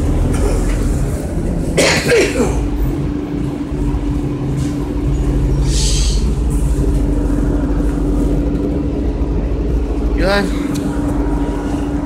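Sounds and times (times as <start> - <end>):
bus engine drone: 0.0 - 12.0
steady whine: 0.0 - 12.0.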